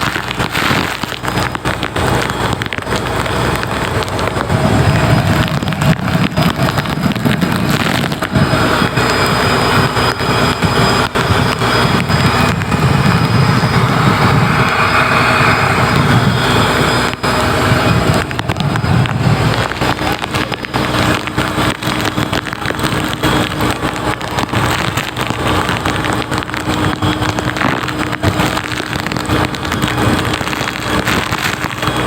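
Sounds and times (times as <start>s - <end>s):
rain crackling on microphone: 0.0s - 32.0s
rumbling boat engine: 0.0s - 32.0s
wind gusting over microphone: 0.0s - 32.0s.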